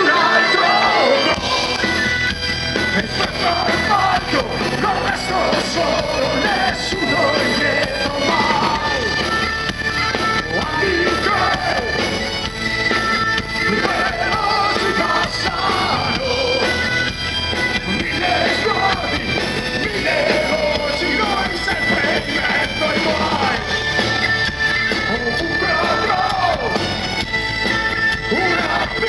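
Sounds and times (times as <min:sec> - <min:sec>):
bagpipes: 0:00.0 - 0:29.0
drums: 0:00.0 - 0:29.0
electric guitar: 0:00.0 - 0:29.0
folk metal band playing: 0:00.0 - 0:29.0.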